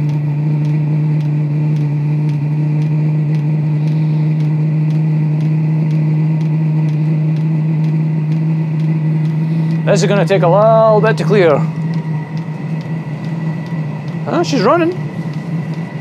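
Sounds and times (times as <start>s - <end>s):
fuel pump clicking: 0.0s - 16.0s
heater blower fan humming: 0.0s - 16.0s.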